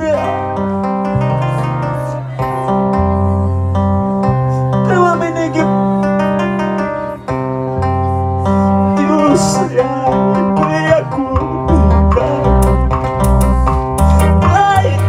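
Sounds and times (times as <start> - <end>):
bass line: 0.0 - 15.0
electric guitar melody: 0.0 - 15.0
keyboard chords: 0.0 - 15.0.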